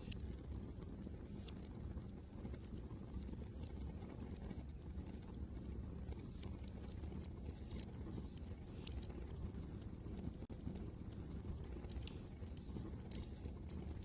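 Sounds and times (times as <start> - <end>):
low rumble of wind: 0.0 - 14.0
wood fire crackling: 0.0 - 14.0.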